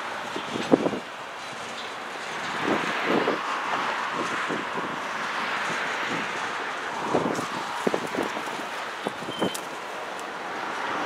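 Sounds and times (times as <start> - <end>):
wheels rushing on rail: 0.0 - 11.0.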